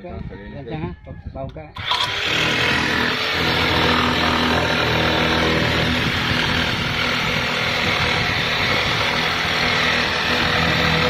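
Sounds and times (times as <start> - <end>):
electric jigsaw cutting wood: 1.8 - 11.0.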